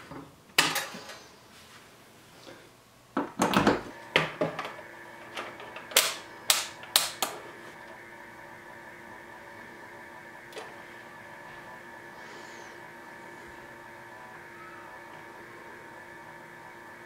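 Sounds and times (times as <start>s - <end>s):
faint hum with high whine: 0.0s - 17.0s.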